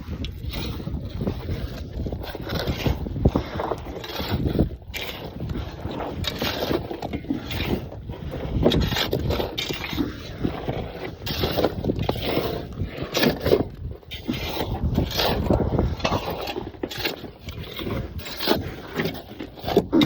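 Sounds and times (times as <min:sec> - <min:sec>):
shovel scraping dirt and gravel: 0:00.0 - 0:20.0.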